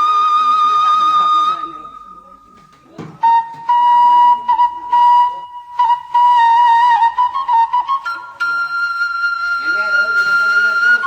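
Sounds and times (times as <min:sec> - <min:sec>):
flute playing long notes: 0:00.0 - 0:11.0.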